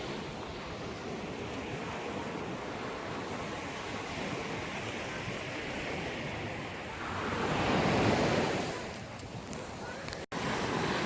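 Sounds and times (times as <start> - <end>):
sea waves washing on shore: 0.0 - 11.0
wind buffeting microphone: 0.0 - 11.0.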